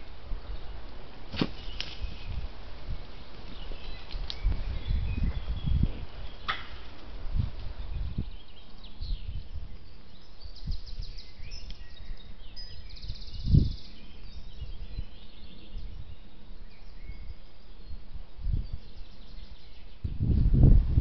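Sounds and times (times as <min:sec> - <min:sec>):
wild birds singing: 0:00.0 - 0:20.4.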